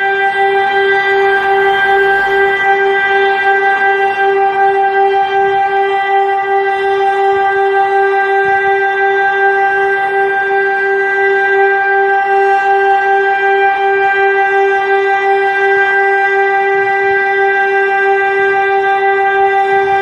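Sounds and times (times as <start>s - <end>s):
warning siren steady tone: 0.0s - 20.0s.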